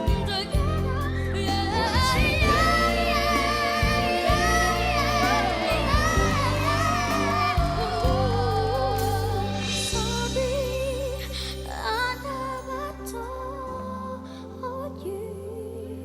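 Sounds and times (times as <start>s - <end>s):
backing music: 0.0s - 13.8s
boys singing a pop ballad: 0.0s - 16.0s.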